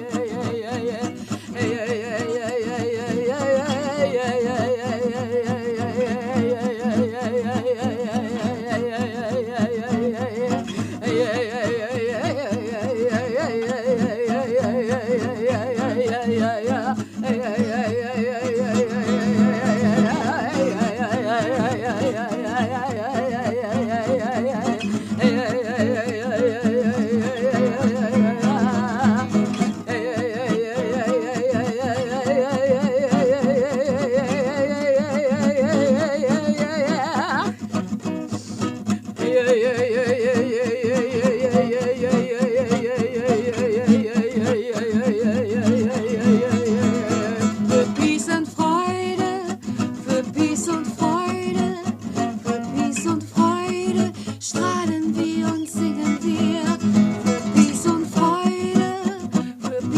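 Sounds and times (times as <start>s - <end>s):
person singing: 0.0s - 59.9s.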